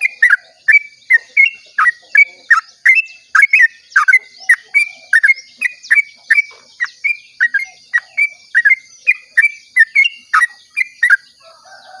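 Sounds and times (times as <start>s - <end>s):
bulbul song: 0.0s - 11.4s.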